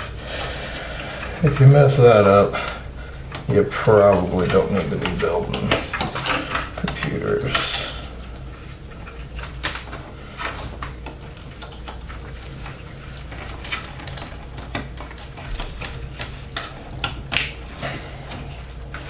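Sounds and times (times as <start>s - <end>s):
cables and connectors clicking: 0.0s - 19.0s
low steady hum: 0.0s - 19.0s.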